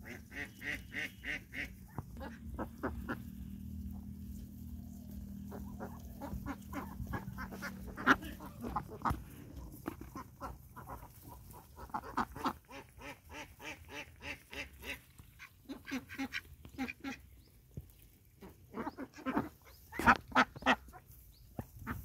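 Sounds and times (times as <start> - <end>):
ducks quacking: 0.0 - 17.4, 18.4 - 22.0.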